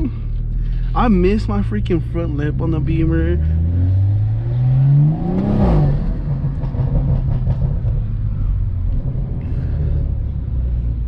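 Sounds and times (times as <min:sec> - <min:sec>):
car engine: 0:00.0 - 0:11.0.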